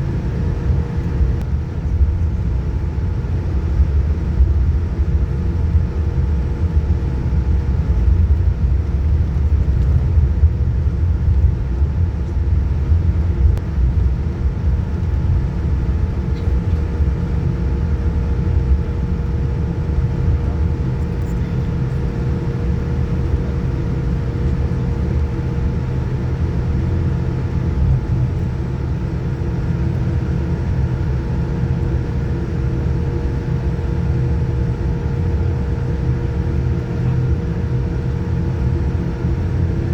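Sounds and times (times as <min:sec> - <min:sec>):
aircraft cabin rumble and whine: 0:00.0 - 0:39.9.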